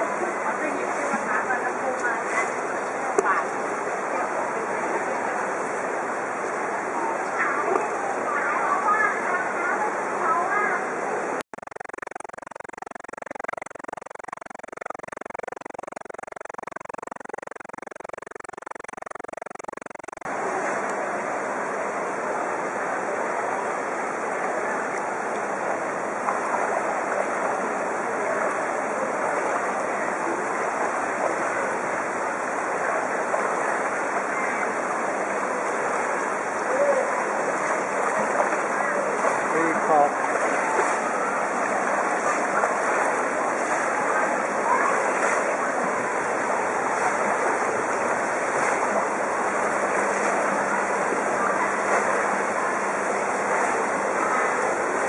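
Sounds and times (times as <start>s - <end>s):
floodwater rushing and sloshing: 0.0s - 11.4s, 20.2s - 55.0s.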